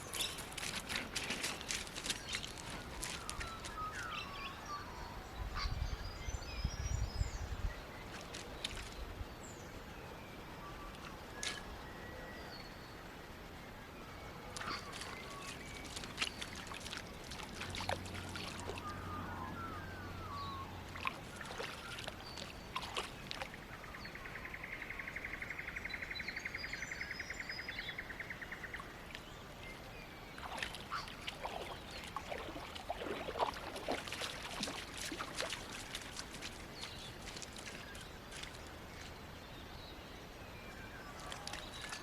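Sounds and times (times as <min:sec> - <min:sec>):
light water sounds: 0:00.0 - 0:06.5, 0:07.2 - 0:25.6, 0:26.5 - 0:42.0.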